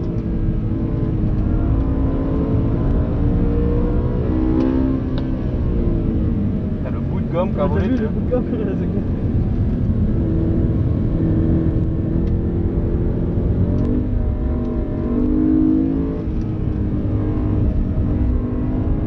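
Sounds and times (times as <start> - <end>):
car engine running hard: 0.0 - 19.0
road and tyre noise: 0.0 - 19.0.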